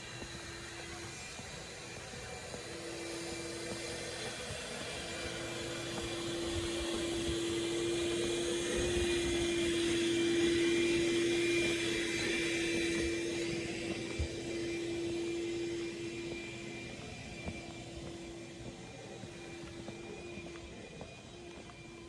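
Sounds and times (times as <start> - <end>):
mechanical drone with humming tone: 0.0 - 22.0.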